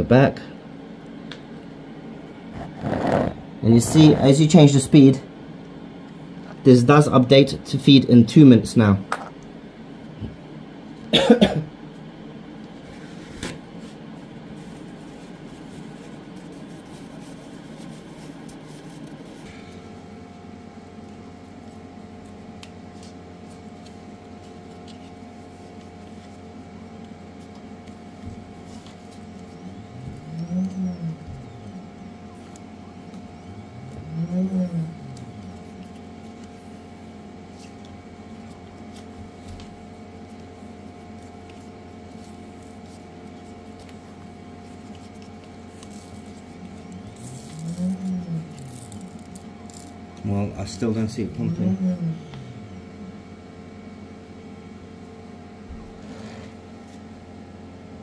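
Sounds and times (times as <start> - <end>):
resin printer humming: 9.5 - 58.0.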